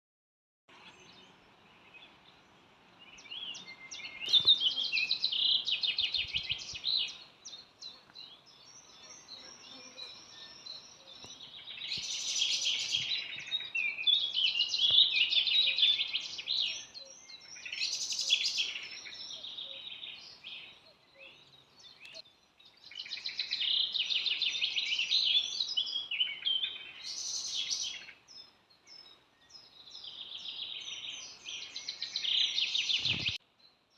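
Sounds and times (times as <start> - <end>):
faint outdoor background hiss: 0.7 - 33.9
songbird singing: 0.7 - 33.9.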